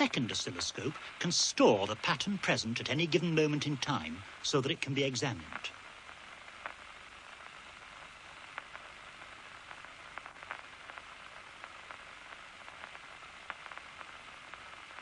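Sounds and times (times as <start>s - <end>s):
faint irregular clicks: 0.0s - 15.0s
loudspeaker hiss: 0.0s - 15.0s.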